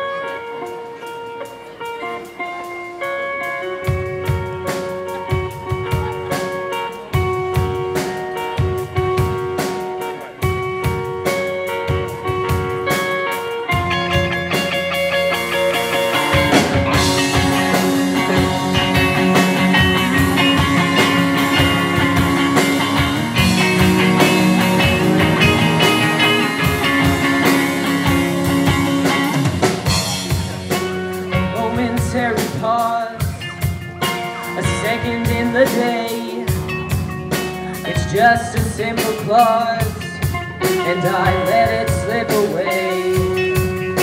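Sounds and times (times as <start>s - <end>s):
picked guitar notes: 0.0s - 44.0s
rock band playing: 0.0s - 44.0s.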